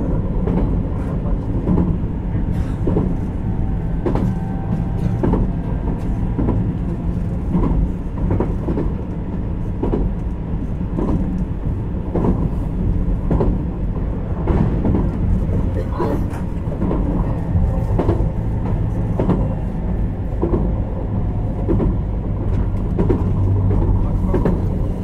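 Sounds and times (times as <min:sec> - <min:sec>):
train interior rumble: 0:00.0 - 0:25.0
wheels clacking over rail joints: 0:00.3 - 0:10.3, 0:10.9 - 0:25.0.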